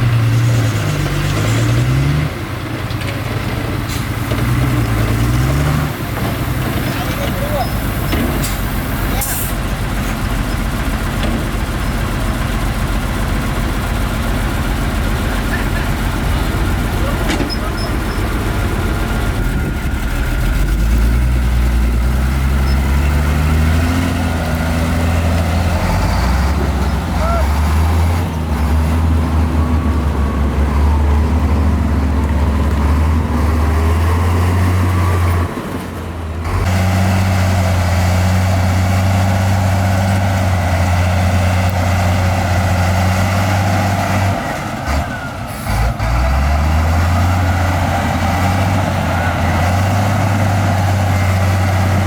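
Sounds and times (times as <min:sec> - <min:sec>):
diesel engine revving: 0:00.0 - 0:52.0.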